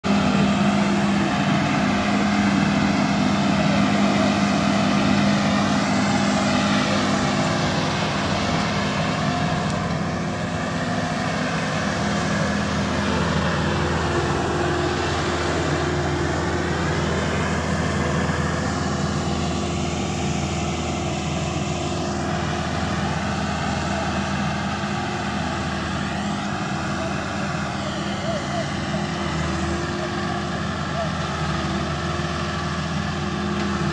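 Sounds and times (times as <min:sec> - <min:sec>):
combine harvester engine drone: 0:00.0 - 0:33.9.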